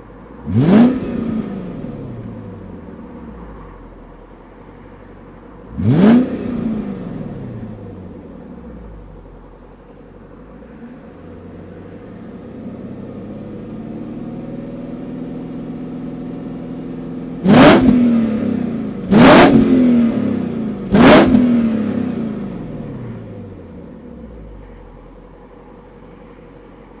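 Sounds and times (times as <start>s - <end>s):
car engine revving: 0.0s - 4.0s, 5.6s - 9.3s, 10.6s - 25.2s
engine idling: 0.0s - 27.0s.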